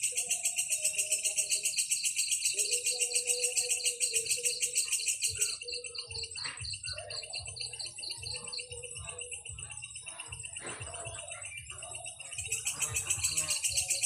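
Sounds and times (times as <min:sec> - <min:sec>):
rapid insect-like trill: 0:00.0 - 0:10.6, 0:11.4 - 0:14.0
bird chirps: 0:00.0 - 0:14.0.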